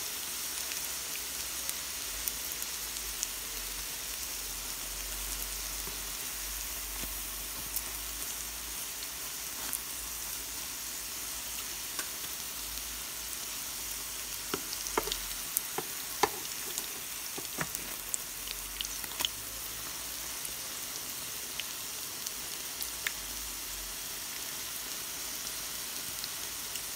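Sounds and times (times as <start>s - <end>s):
fritters sizzling in oil: 0.0s - 26.9s.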